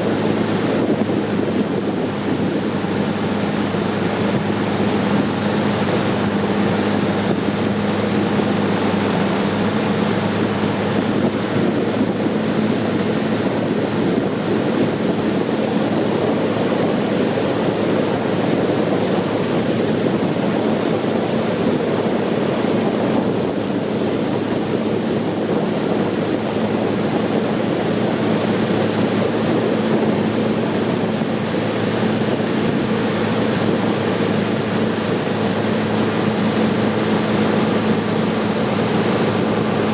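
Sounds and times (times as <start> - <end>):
boat engine humming: 0.0 - 39.9
water rushing: 0.0 - 39.9
wind: 0.0 - 39.9.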